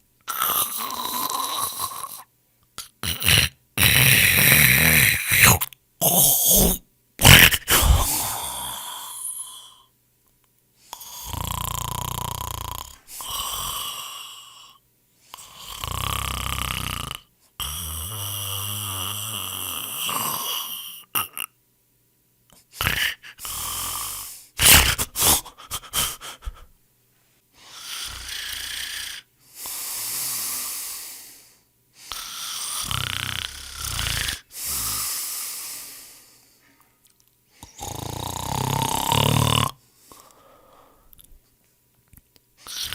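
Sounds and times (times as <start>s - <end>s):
person snoring: 0.3s - 9.9s, 10.9s - 21.5s, 22.7s - 26.7s, 27.6s - 36.4s, 37.6s - 41.2s, 42.6s - 42.9s.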